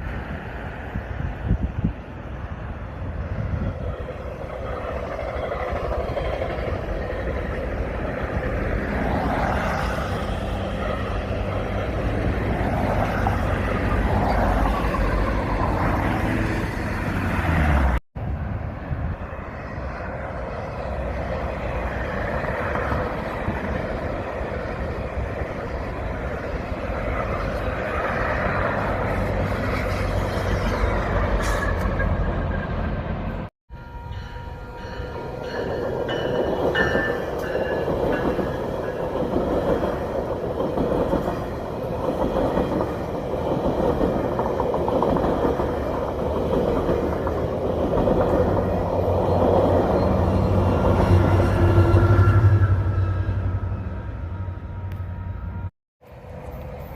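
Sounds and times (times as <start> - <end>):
diesel train rumble: 0.0 - 56.9.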